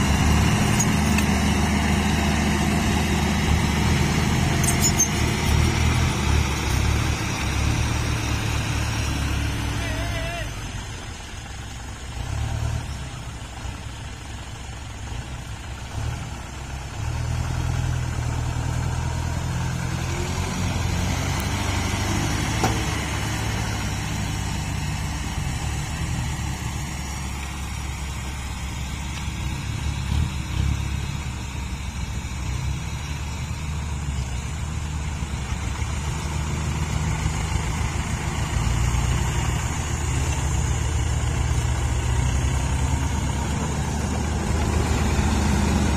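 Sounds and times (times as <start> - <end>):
truck engine revving: 0.0 - 45.9.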